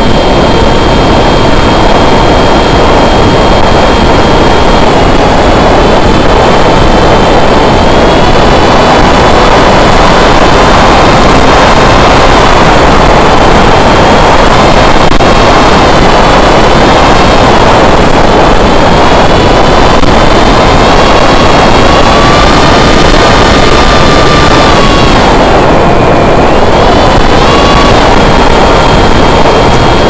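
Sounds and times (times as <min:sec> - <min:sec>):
electric motor and propeller whine: 0:00.0 - 0:30.0
wind rushing on microphone: 0:00.0 - 0:30.0.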